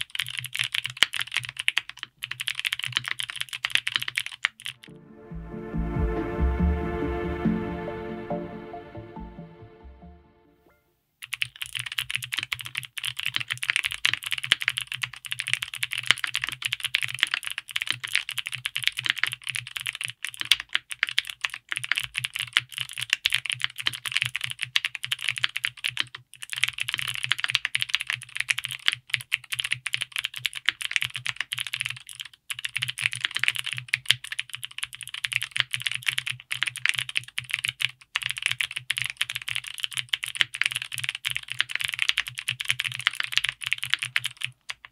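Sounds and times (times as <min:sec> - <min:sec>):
mechanical keyboard typing: 0:00.0 - 0:04.8, 0:11.2 - 0:44.9.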